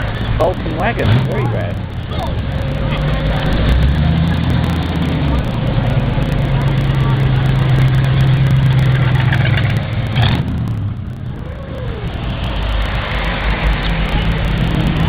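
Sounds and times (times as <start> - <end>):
cars driving slowly past: 0.0 - 15.0.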